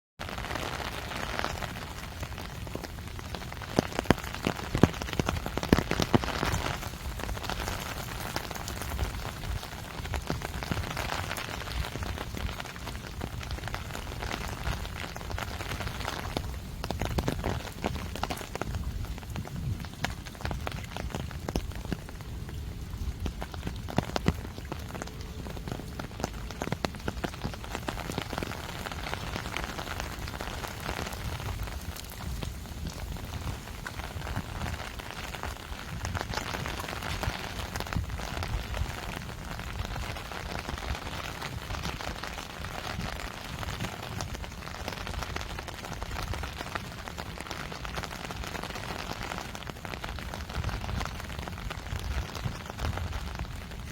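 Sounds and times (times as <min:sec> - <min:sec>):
raindrops ticking: 0:00.2 - 0:53.9
steady rain hiss: 0:00.2 - 0:53.9.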